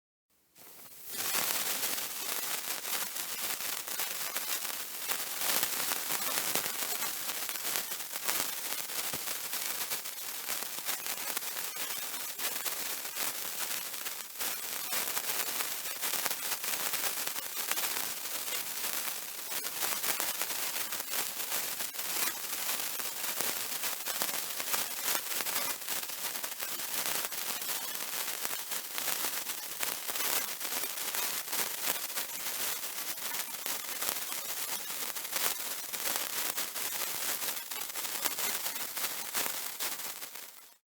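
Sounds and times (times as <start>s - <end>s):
sparkler fizzing and crackling: 0.6s - 40.8s.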